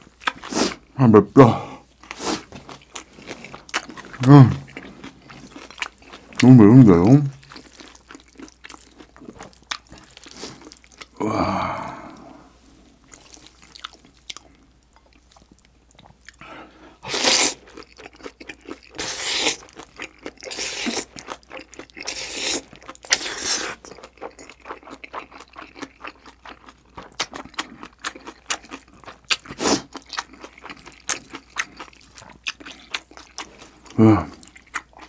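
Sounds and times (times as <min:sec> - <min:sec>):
chewing with small clicks: 0:02.0 - 0:06.5, 0:07.3 - 0:11.1, 0:13.1 - 0:16.5, 0:17.6 - 0:19.0, 0:19.6 - 0:35.0.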